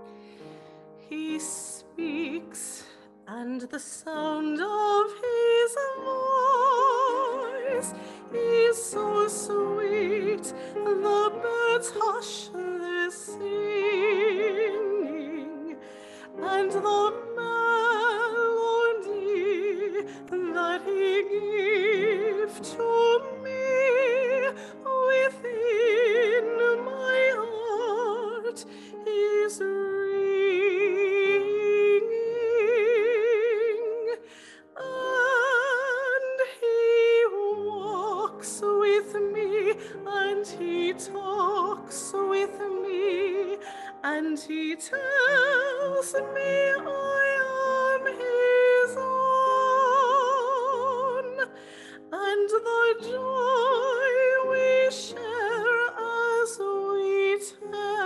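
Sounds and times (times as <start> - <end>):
upright piano: 0.0 - 58.0
woman singing with vibrato: 1.1 - 58.0.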